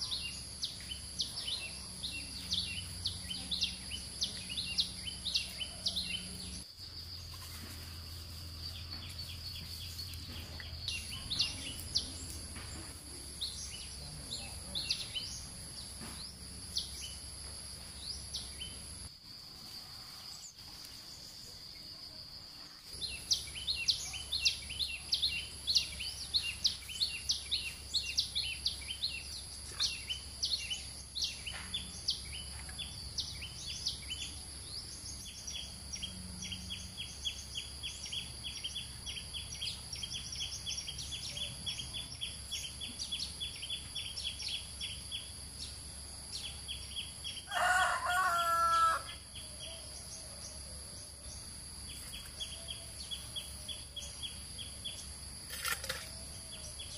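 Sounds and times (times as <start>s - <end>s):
birds chirping: 0.0s - 19.1s, 22.9s - 56.9s.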